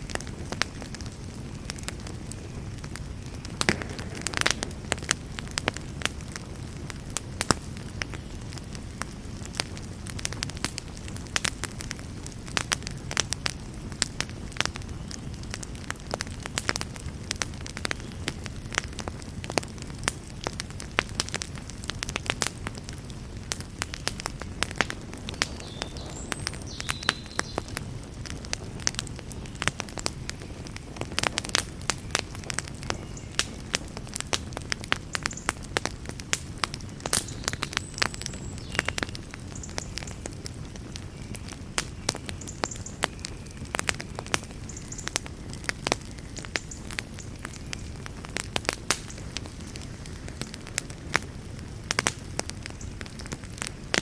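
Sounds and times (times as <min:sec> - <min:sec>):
campfire crackling and popping: 0:00.0 - 0:54.0
low rush of flame: 0:00.0 - 0:54.0.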